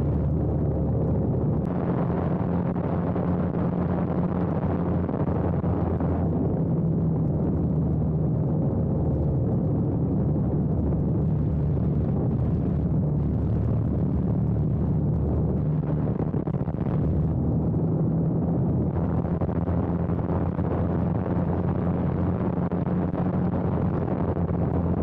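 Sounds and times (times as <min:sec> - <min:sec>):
airflow rushing over camera: 0:00.0 - 0:25.0
propeller plane engine: 0:00.0 - 0:25.0.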